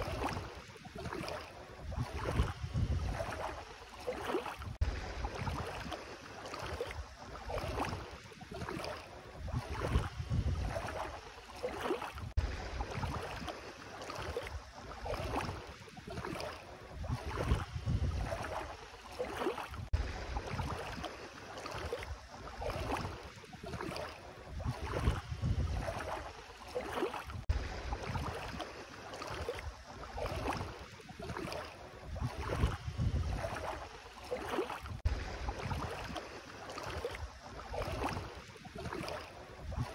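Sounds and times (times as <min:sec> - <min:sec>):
feet wading through water: 0:00.0 - 0:39.9.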